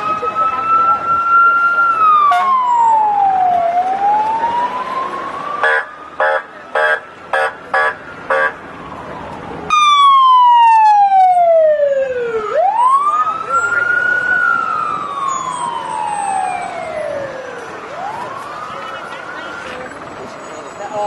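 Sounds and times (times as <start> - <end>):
emergency sirens wailing: 0.0 - 21.0.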